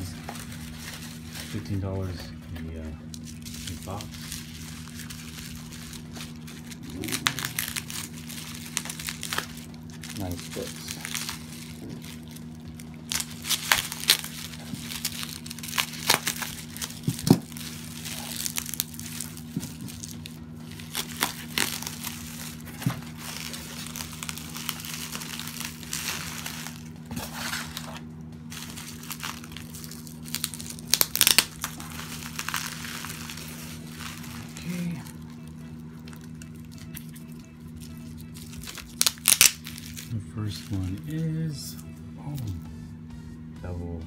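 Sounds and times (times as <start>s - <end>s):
bubble wrap crinkling and crackling: 0.0s - 42.6s.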